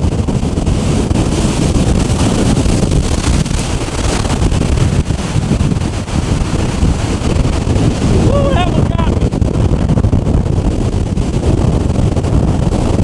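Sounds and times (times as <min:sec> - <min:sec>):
strong wind buffeting microphone: 0:00.0 - 0:13.0
surf breaking on rocks: 0:00.0 - 0:13.0.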